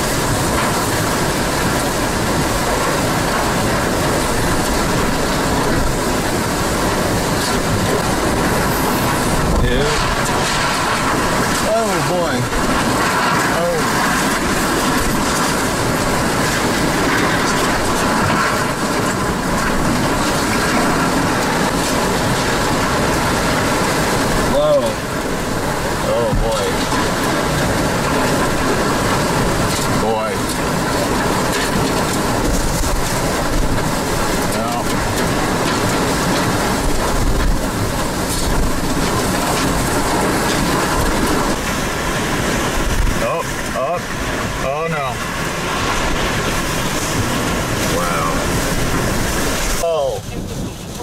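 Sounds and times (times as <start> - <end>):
hurricane wind blowing: 0.0 - 51.0.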